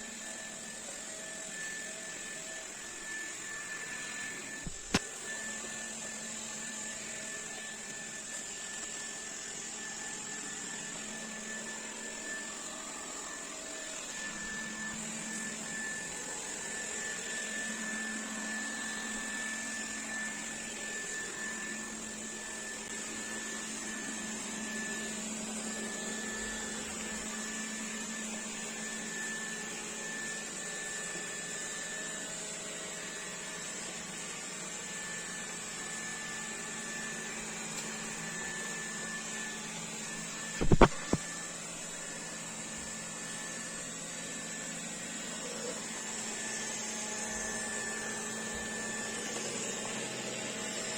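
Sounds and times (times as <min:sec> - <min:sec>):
robot vacuum cleaner running: 0:00.0 - 0:50.9.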